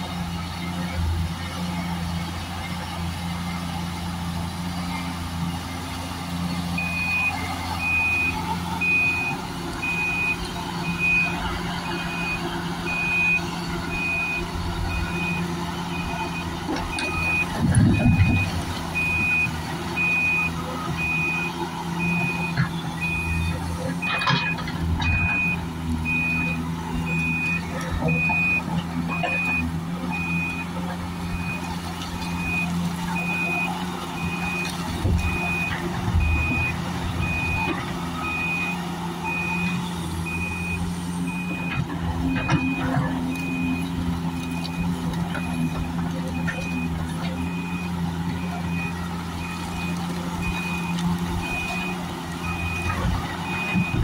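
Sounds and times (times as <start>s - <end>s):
diesel excavator running: 0.0s - 54.0s
backup alarm beeping: 6.8s - 31.6s, 32.4s - 43.9s, 44.5s - 54.0s.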